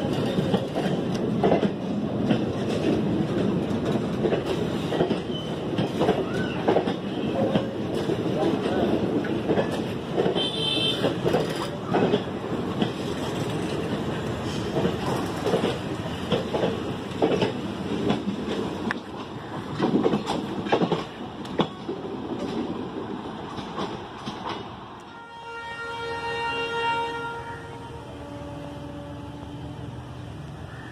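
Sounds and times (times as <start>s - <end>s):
train wheels clattering over rail joints: 0.0s - 24.8s.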